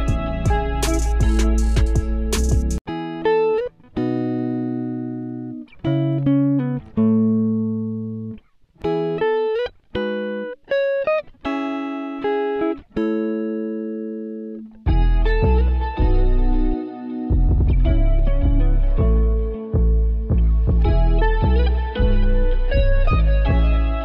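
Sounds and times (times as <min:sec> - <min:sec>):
plucked guitar notes: 0:00.0 - 0:24.0.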